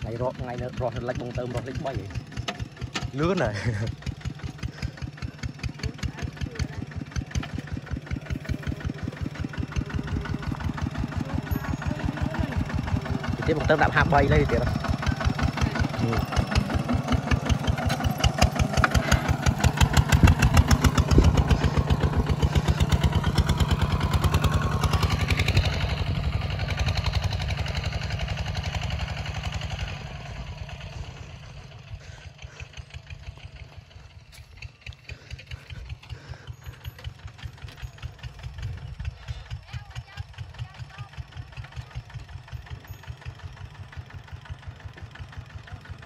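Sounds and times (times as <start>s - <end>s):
diesel tractor engine chugging: 0.0s - 46.0s.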